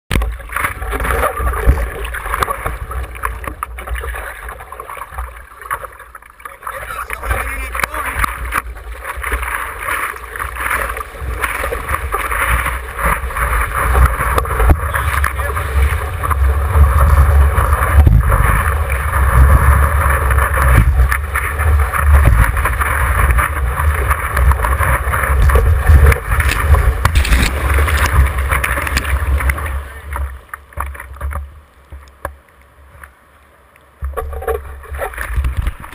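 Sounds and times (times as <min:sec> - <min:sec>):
wind rumbling on microphone: 0:00.1 - 0:06.0, 0:06.6 - 0:32.1, 0:34.0 - 0:35.9
water sloshing against surfboard: 0:00.1 - 0:35.9
whitewater washing over camera: 0:00.1 - 0:35.9.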